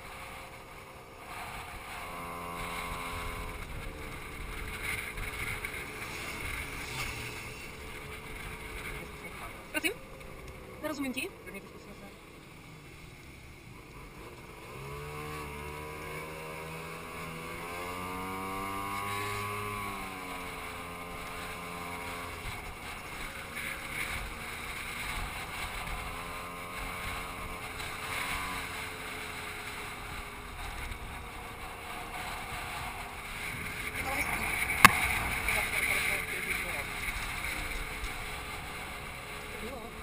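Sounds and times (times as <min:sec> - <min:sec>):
scooter engine accelerating: 0:00.0 - 0:40.0.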